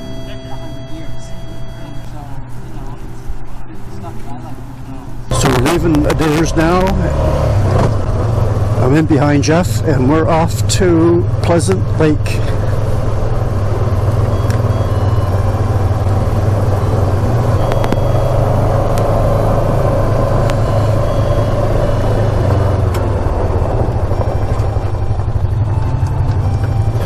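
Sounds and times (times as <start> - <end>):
all-terrain vehicle engine running: 5.3 - 27.0.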